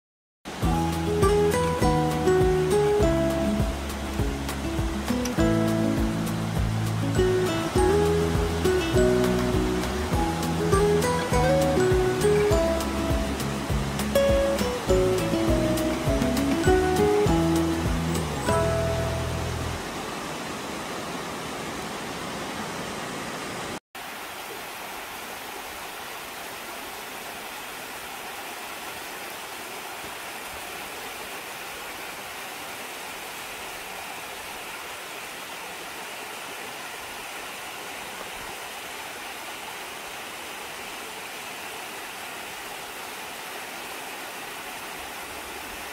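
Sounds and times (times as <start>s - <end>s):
waterfall rushing: 0.5s - 45.9s.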